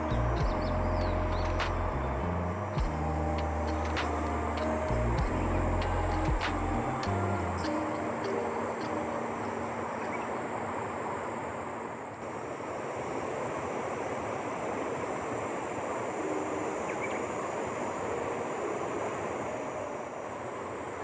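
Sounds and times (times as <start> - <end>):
faint high hiss: 0.0 - 21.0
steady rushing noise: 0.0 - 21.0.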